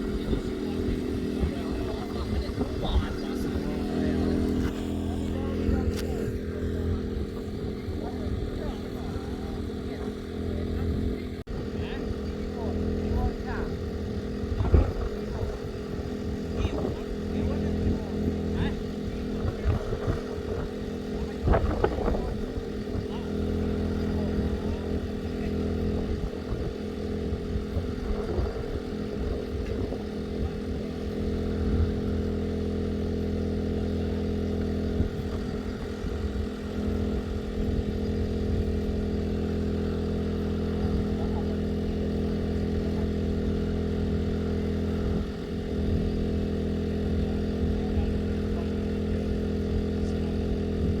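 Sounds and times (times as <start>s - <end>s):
generator running: 0.0s - 51.0s.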